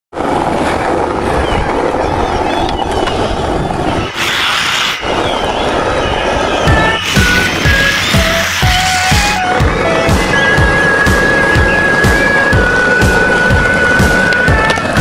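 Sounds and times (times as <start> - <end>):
skateboard wheels rolling on asphalt: 0.1 - 15.0.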